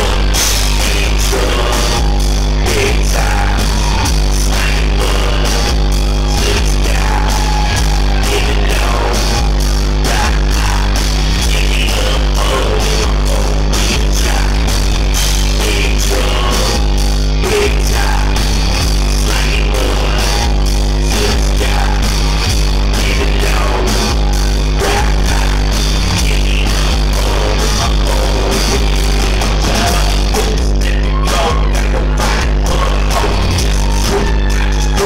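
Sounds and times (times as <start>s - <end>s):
person singing: 0.0s - 14.8s, 15.4s - 35.0s
bass guitar: 0.0s - 35.0s
drum kit: 0.0s - 35.0s
electric guitars: 0.0s - 35.0s.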